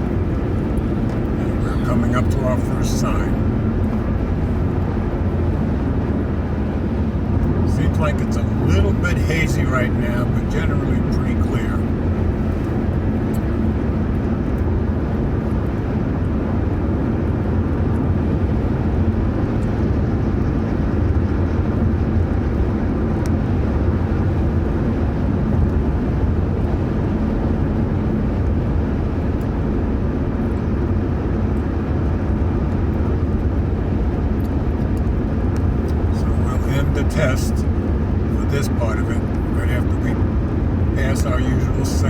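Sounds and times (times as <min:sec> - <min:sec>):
car cabin road and engine rumble: 0:00.0 - 0:19.9, 0:21.6 - 0:42.0.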